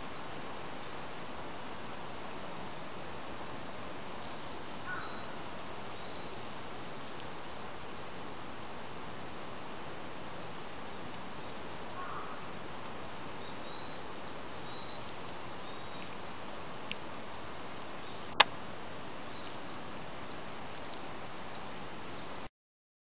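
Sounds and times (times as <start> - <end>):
high chirps of birds or insects: 0.0 - 22.5
steady forest hiss: 0.0 - 22.5.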